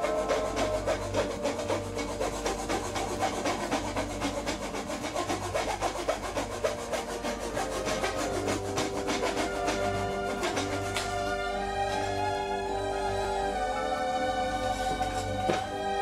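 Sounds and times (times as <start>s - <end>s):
hand saw rasping through wood: 0.0s - 16.0s.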